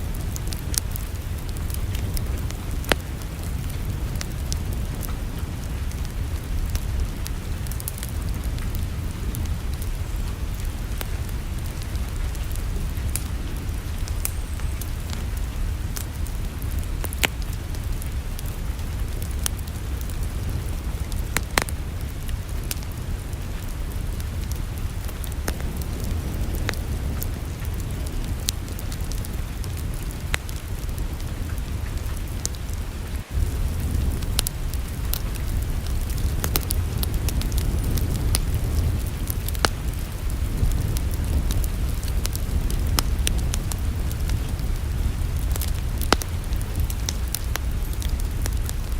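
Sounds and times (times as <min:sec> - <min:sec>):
low rumble: 0:00.0 - 0:48.9
wood fire crackling: 0:00.0 - 0:48.9.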